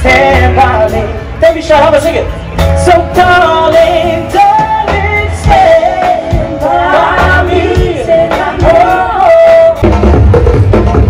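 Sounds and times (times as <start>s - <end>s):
bass: 0.0s - 11.0s
drums: 0.0s - 11.0s.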